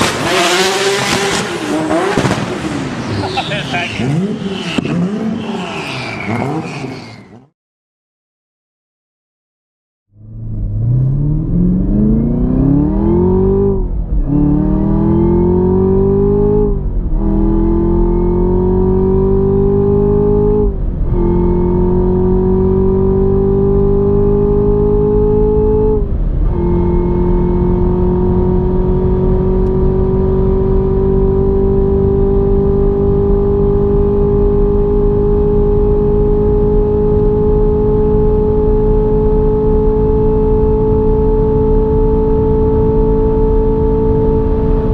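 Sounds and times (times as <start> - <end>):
sports car engine accelerating: 0.0 - 7.5, 10.2 - 44.9.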